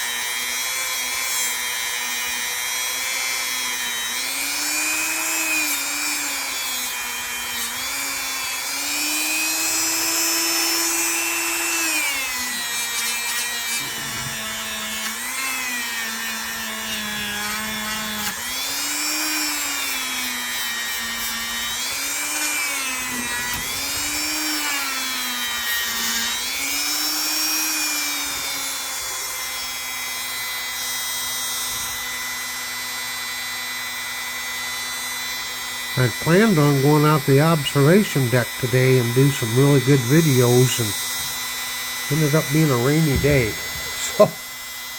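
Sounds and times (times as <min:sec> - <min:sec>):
small power tool motor: 0:00.0 - 0:44.9.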